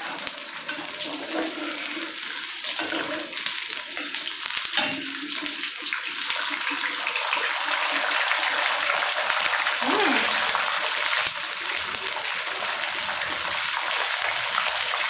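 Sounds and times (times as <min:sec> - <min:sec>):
beans sizzling in oil: 0:00.0 - 0:15.0.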